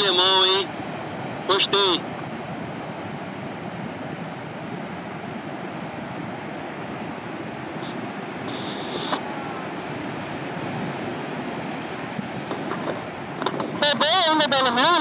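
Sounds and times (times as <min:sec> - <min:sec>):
heavy ocean surf: 0:00.0 - 0:15.0
wind buffeting microphone: 0:00.0 - 0:15.0.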